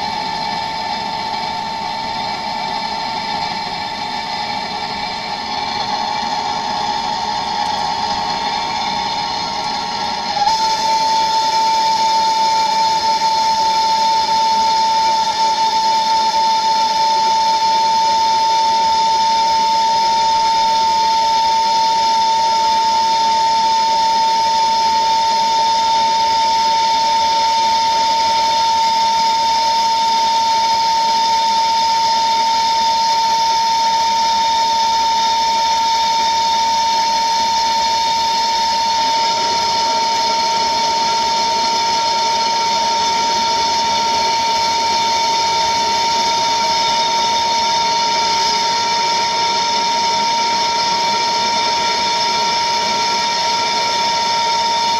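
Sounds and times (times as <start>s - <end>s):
blowtorch flame hissing and whistling: 0.0s - 54.9s.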